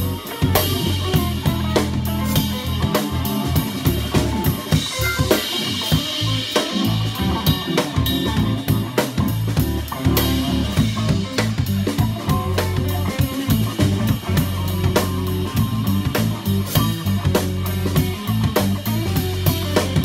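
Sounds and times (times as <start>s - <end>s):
drum kit: 0.0s - 20.0s
funk band playing: 0.0s - 20.0s.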